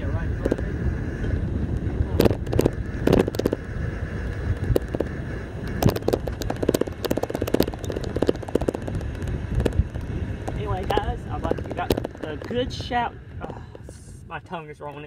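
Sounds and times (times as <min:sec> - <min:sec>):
sharp crackles and knocks: 0:00.0 - 0:14.1
golf cart rumble: 0:00.0 - 0:14.5
wind on microphone: 0:00.0 - 0:15.0.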